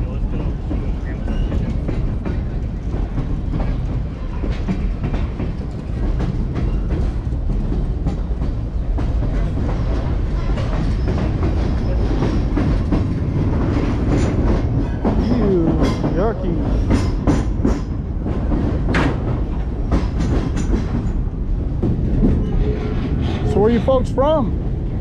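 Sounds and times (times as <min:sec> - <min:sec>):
track clicks and clacks: 0:00.0 - 0:24.5
train wheels rumbling on rail: 0:00.0 - 0:25.0.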